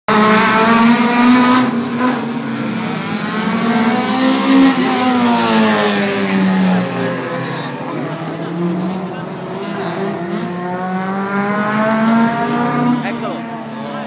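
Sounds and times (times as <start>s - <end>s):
race car engines passing: 0.1s - 14.0s.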